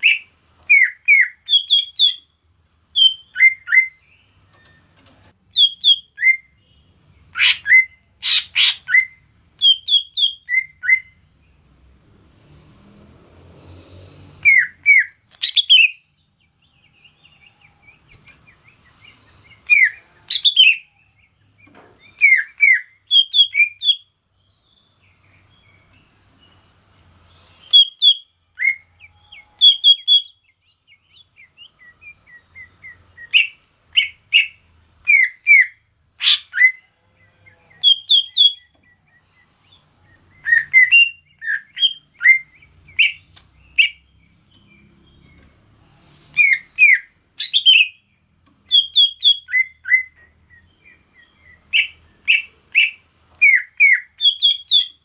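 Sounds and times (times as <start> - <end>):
bird singing whistled notes: 0.0 - 4.9, 5.5 - 11.3, 14.4 - 26.7, 27.3 - 45.5, 46.3 - 55.0.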